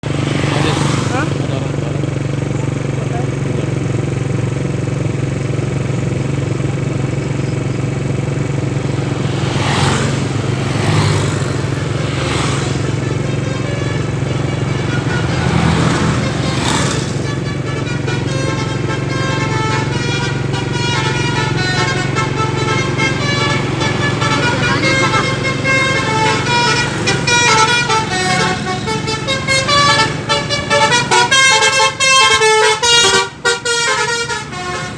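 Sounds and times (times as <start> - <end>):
bus engine humming: 0.0 - 34.9
multi-tone musical bus horn: 0.0 - 34.9.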